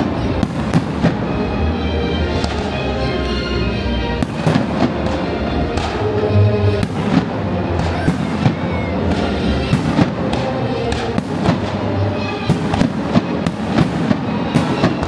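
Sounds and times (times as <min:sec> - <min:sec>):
fireworks bursting: 0:00.0 - 0:03.0, 0:04.1 - 0:15.0
music with held notes: 0:00.0 - 0:15.0.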